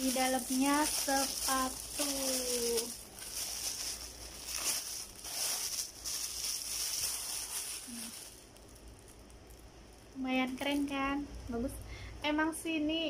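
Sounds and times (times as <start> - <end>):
plastic wrapping crinkling: 0.0 - 11.1.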